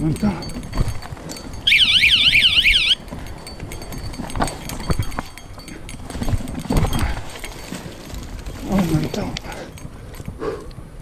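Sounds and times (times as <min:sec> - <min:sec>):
bike rattling over rocks: 0:00.0 - 0:10.4.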